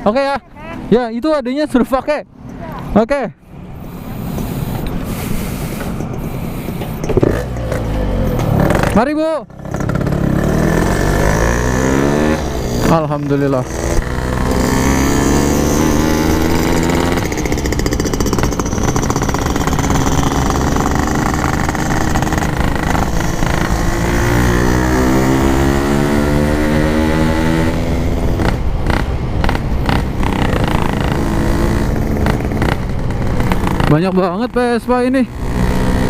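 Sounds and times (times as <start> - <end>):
two-stroke motorcycle engine: 7.0 - 36.0.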